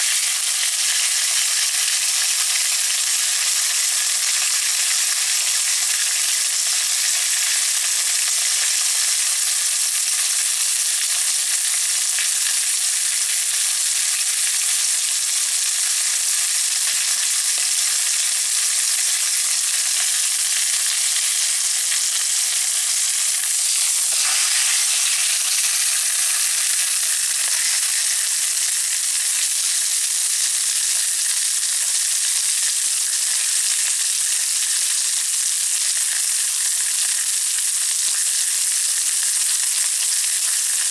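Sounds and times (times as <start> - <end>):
pork fat sizzling in a pan: 0.0 - 40.9.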